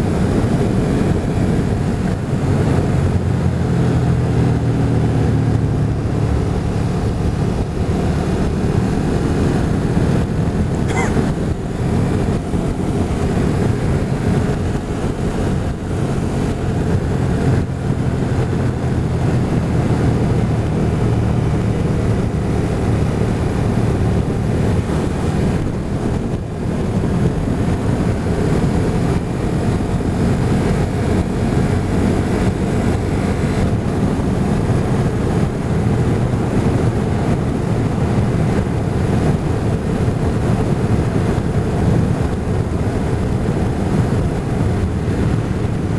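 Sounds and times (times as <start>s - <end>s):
motorcycle engine running: 0.0s - 45.9s
wind rush on microphone: 0.0s - 45.9s.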